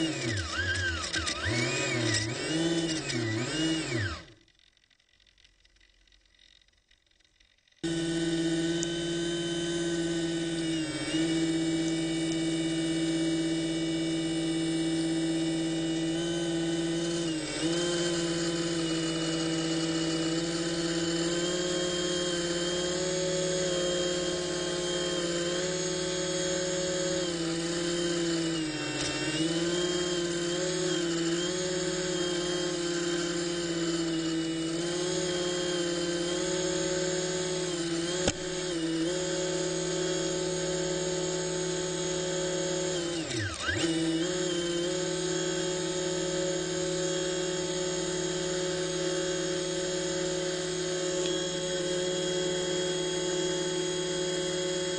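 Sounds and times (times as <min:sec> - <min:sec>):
electric motor whining: 0:00.0 - 0:06.6, 0:07.8 - 0:54.9.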